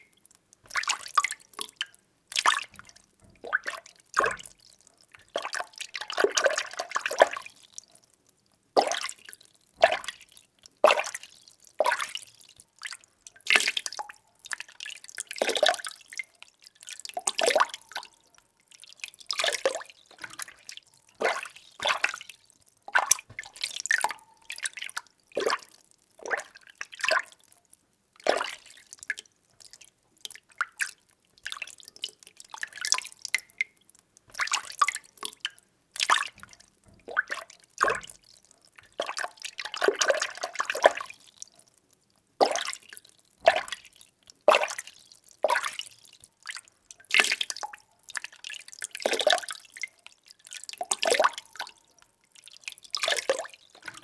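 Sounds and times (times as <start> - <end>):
water sloshing in a container: 0.1 - 8.0, 8.8 - 27.5, 28.2 - 41.7, 42.4 - 54.0.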